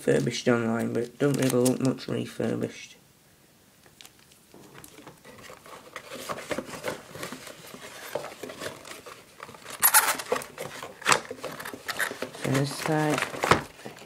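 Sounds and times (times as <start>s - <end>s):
packaging rustling and crinkling: 0.1s - 2.0s, 3.9s - 14.0s.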